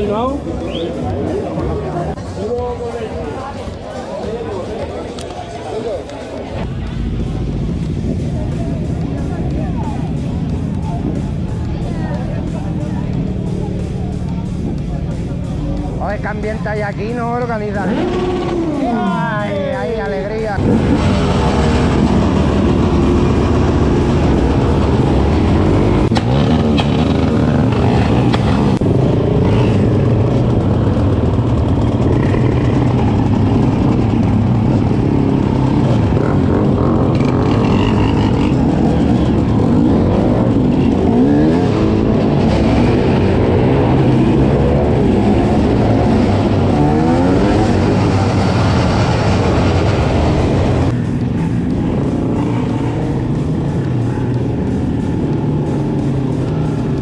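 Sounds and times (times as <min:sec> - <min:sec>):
motorcycle and quad engines revving: 0:00.0 - 0:57.0.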